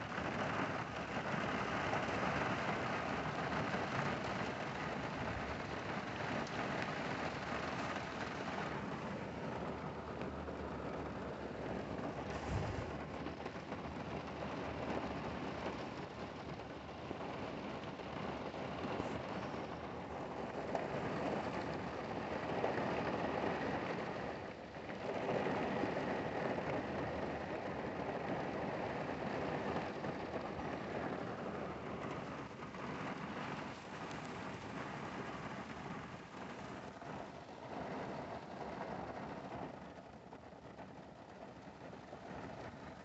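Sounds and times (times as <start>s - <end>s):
car tyres on wet road: 0.0s - 43.0s
rain on car roof: 0.0s - 43.0s.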